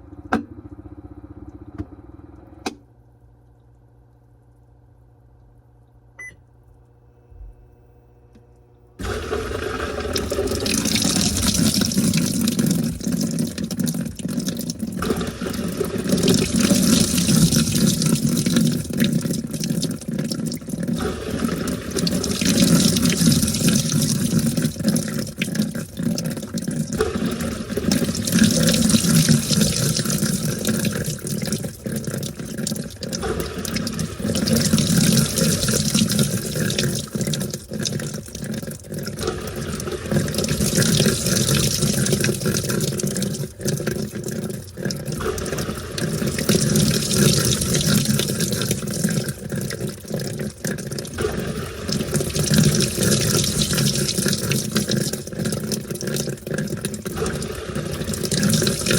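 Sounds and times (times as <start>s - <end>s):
washing machine water sloshing: 9.0s - 58.9s.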